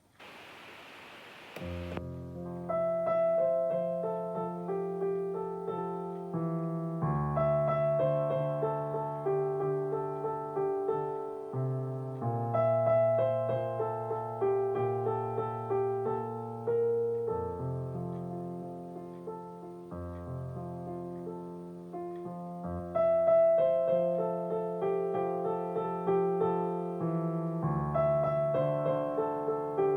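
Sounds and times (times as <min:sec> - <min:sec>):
slow gentle piano music: 0:01.6 - 0:29.9.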